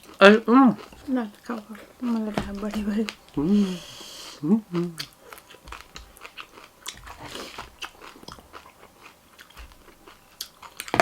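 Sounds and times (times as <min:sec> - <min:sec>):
crunchy chewing of food: 0:00.0 - 0:03.5, 0:04.7 - 0:11.0.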